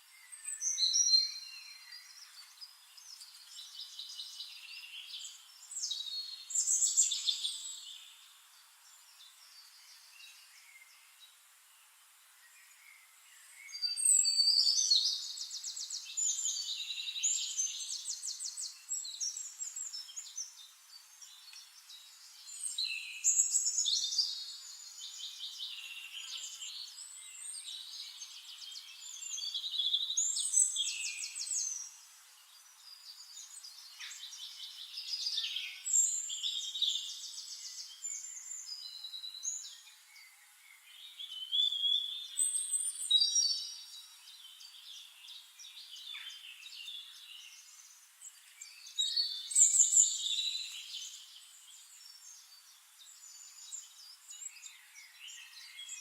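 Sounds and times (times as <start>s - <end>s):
birds trilling songs: 0.0s - 11.6s, 12.3s - 56.0s.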